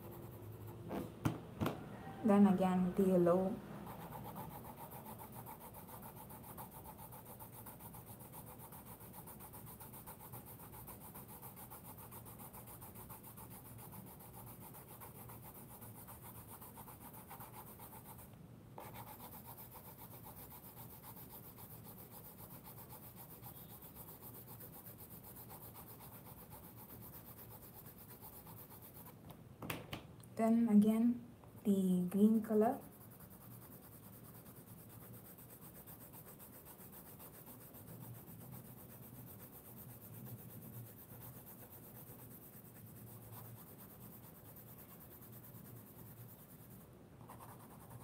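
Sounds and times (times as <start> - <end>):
pencil shading on paper: 0.0 - 0.8, 3.1 - 29.2, 32.2 - 48.0.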